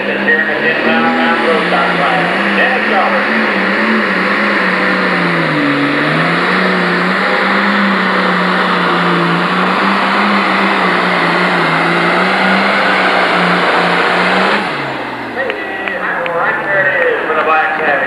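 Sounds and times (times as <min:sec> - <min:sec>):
tractor engine at full throttle: 0:00.0 - 0:18.0.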